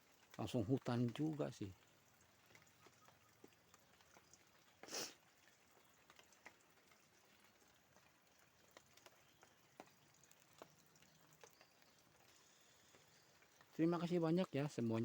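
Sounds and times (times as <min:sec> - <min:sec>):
faint ticks: 0:00.0 - 0:14.2.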